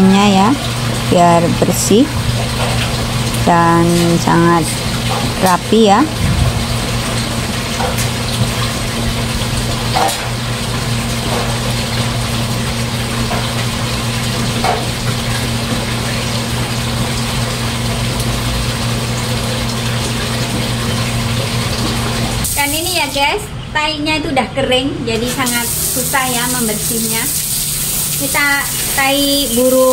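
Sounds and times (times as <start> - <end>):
water splashing and trickling: 0.0 - 23.0, 25.3 - 29.9
water pump humming: 0.0 - 23.6, 24.6 - 29.9.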